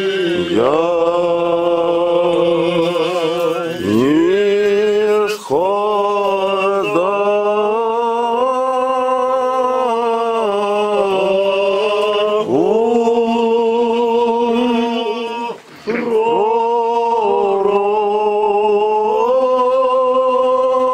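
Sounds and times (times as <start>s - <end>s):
men singing a slow chant: 0.0s - 20.9s.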